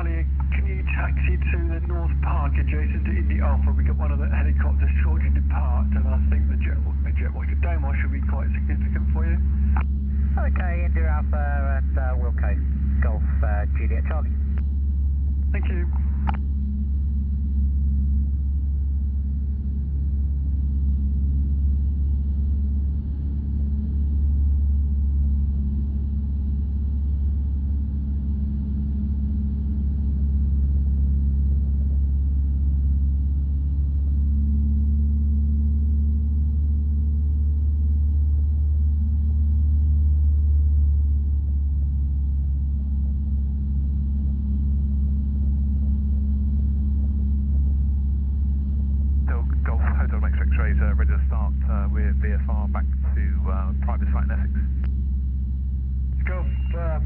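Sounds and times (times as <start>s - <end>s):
light aircraft piston engine droning: 0.0s - 57.0s.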